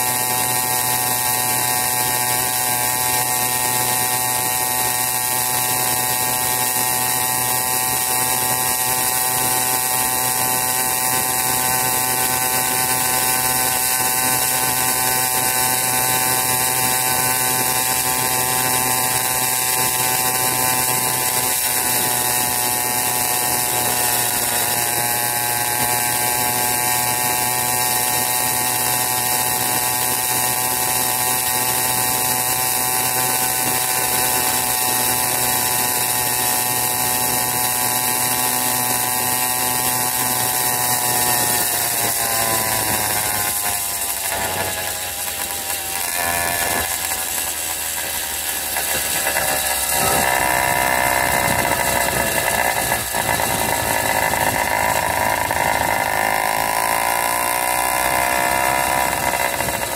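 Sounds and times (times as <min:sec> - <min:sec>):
bicycle engine buzzing: 0:00.0 - 0:59.9.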